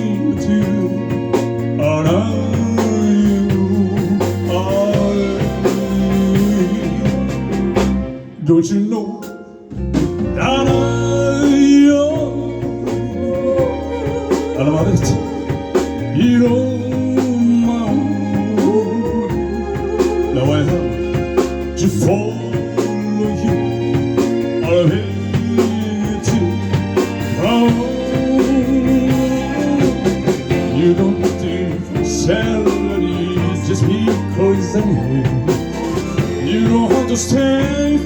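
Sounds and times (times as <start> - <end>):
sustained organ bed: 0.0 - 8.4, 9.2 - 38.0
bending lead melody: 0.0 - 38.0.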